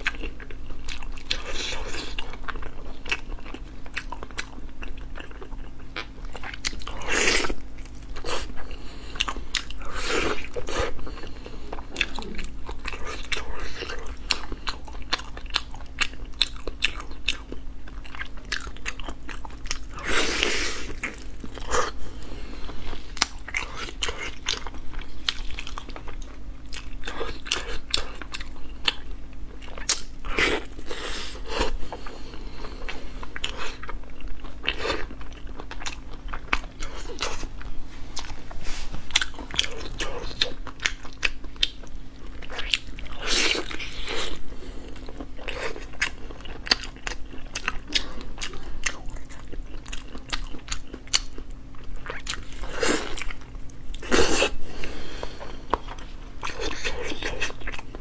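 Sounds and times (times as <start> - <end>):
chewing meat: 0.0 - 58.0.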